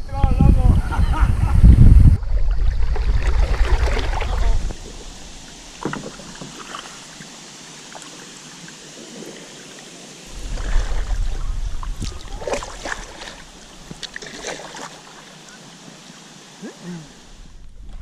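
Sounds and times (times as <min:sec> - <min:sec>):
faint water hiss: 0:00.1 - 0:18.0
paddle splashes: 0:02.2 - 0:18.0.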